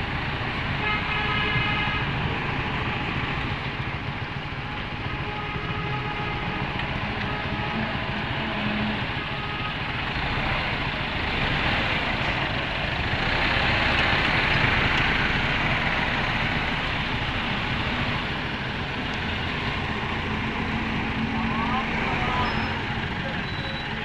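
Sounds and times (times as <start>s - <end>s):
diesel tractor engines running: 0.0s - 24.0s.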